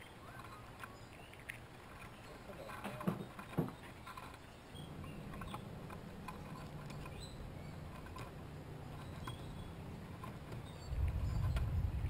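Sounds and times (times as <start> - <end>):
chipmunks shucking corn clicks: 0.0 - 11.9
low steady hum: 0.0 - 12.0.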